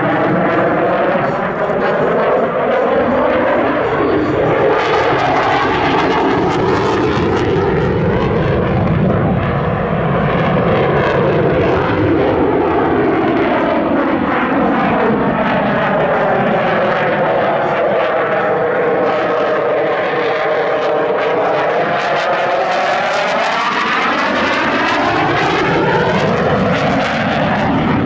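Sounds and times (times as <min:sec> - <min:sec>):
fighter jet passing: 0:00.0 - 0:28.0.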